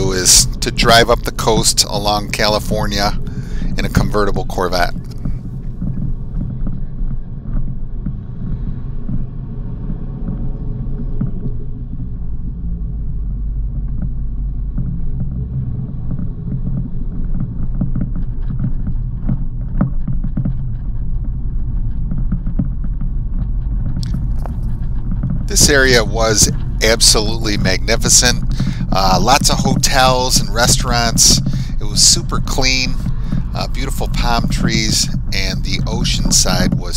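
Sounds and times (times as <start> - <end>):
car engine low drone: 0.0 - 36.9
road ticks and knocks: 0.0 - 36.9.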